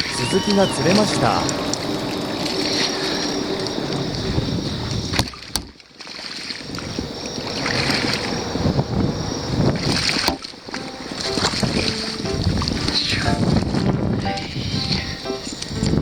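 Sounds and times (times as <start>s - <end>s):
water rushing: 0.0s - 15.9s
insects chirping: 0.0s - 16.0s
wind: 0.0s - 16.0s.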